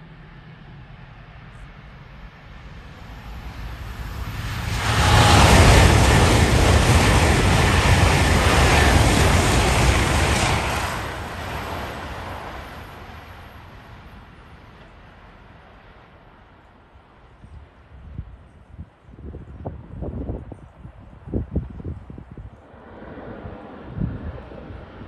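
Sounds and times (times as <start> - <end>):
train passing at speed: 0.0 - 18.4, 22.4 - 25.0.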